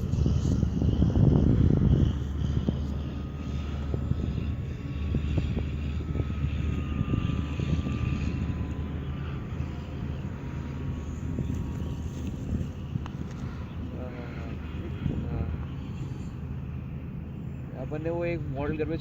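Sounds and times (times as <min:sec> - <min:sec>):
model airplane motor whine: 0:00.0 - 0:19.0
steady low rumble: 0:00.0 - 0:19.0.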